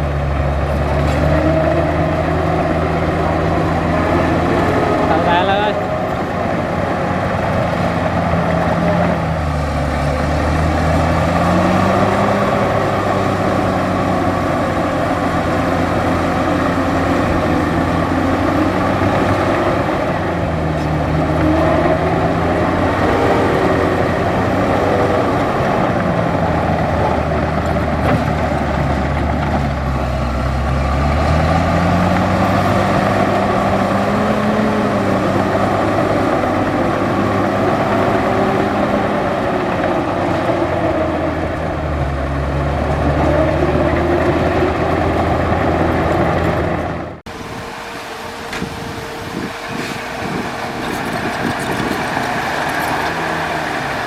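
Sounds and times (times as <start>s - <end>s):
bulldozer diesel engine under load: 0.0s - 54.0s
bulldozer pushing dirt: 0.0s - 54.0s.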